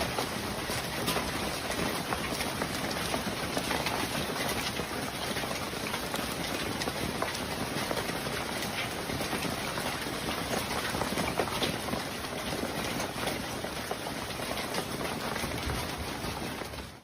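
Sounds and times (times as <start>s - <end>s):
rain and hail pelting: 0.0s - 17.0s
sharp ticks of hail impacts: 0.0s - 17.0s.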